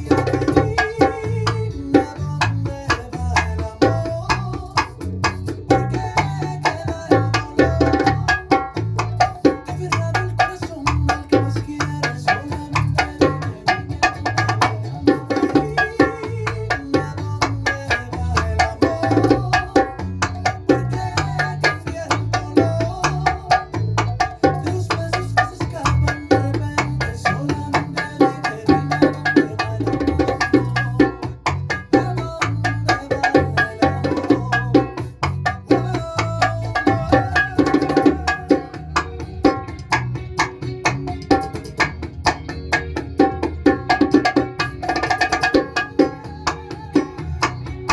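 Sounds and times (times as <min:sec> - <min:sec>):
bongos played with hands: 0:00.0 - 0:47.9
music with steady bass line: 0:00.0 - 0:47.9.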